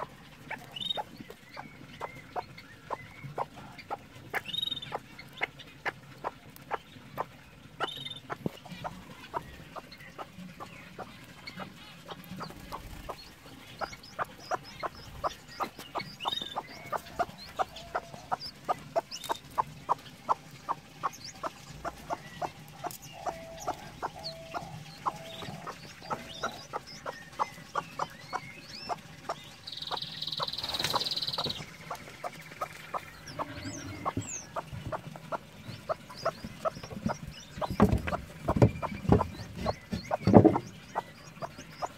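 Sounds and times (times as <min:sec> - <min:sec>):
chicks peeping: 0:00.0 - 0:41.9
hen clucking: 0:00.0 - 0:41.9.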